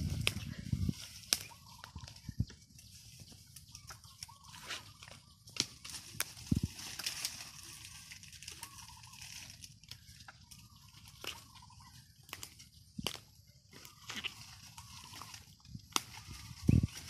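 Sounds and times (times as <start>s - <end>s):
dry leaves rustling and crackling: 0.0s - 17.0s
faint bird calling: 0.3s - 6.0s, 7.2s - 12.9s, 13.7s - 17.0s.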